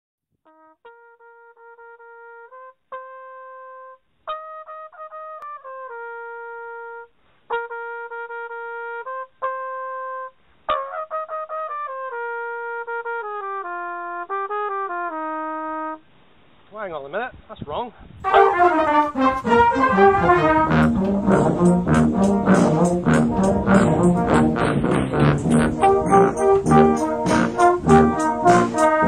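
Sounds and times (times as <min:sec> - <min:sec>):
solo cornet melody: 0:00.5 - 0:16.1, 0:18.2 - 0:29.0.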